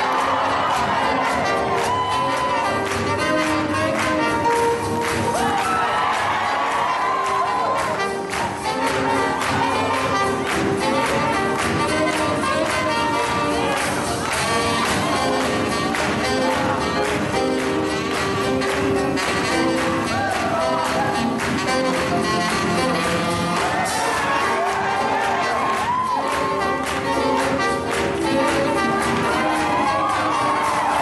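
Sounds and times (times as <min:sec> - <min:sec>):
swing jazz band playing: 0:00.0 - 0:31.0.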